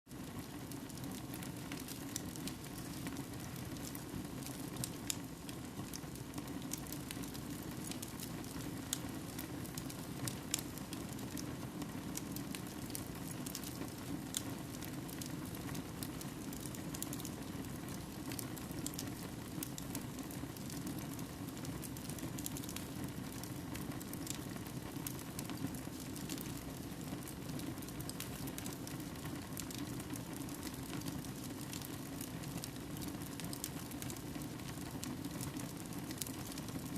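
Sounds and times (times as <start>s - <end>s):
fireplace fire crackling: 0.1s - 36.9s.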